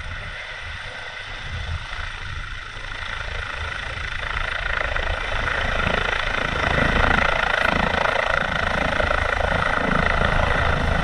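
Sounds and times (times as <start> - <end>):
helicopter rotor beat: 0.0 - 11.0
turbine whine: 0.0 - 11.0.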